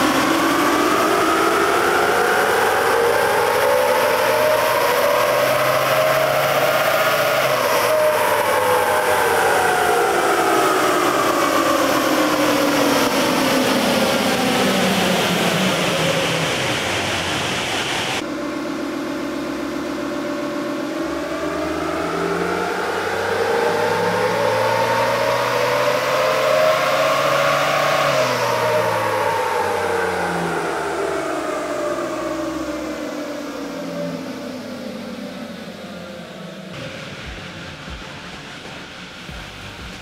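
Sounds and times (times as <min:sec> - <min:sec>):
engine running on a dyno: 0:00.0 - 0:40.0.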